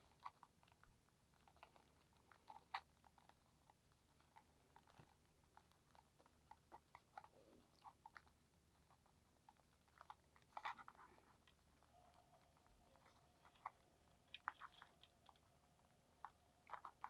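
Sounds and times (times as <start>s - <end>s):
crackles: 0.0s - 17.0s.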